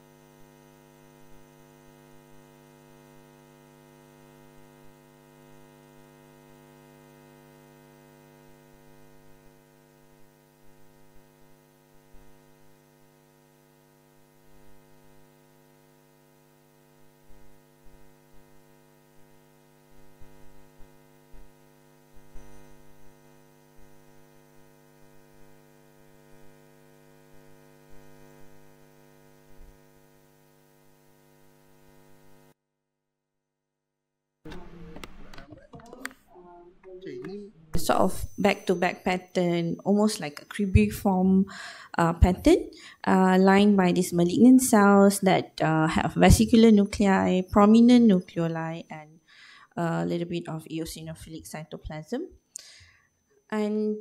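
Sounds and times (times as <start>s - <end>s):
electrical mains hum: 0.0s - 32.6s, 34.5s - 54.0s.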